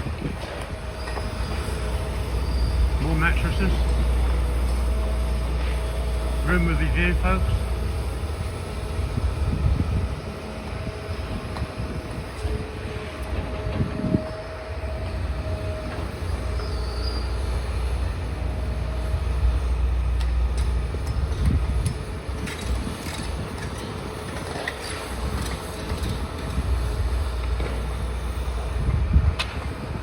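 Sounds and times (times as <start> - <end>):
excavator diesel rumble: 0.0 - 30.0.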